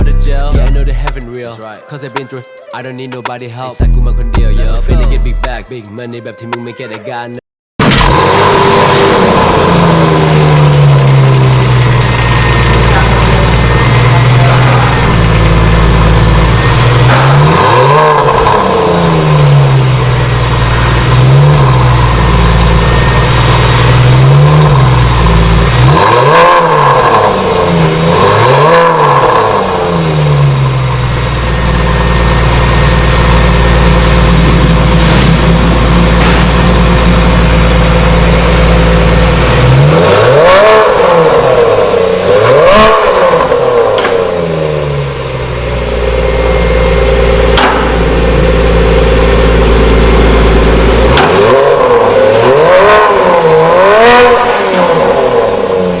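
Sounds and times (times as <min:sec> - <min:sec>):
sports car engine revving: 0:00.0 - 0:05.7, 0:07.8 - 0:56.0.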